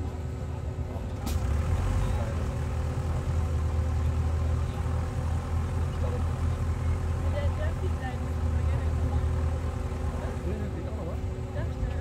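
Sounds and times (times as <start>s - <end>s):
engine rumbling at low speed: 0.0s - 12.0s.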